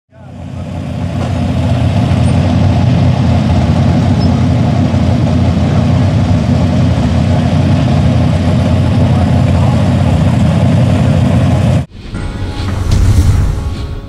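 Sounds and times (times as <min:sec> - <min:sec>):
engine idling: 0:00.1 - 0:11.9.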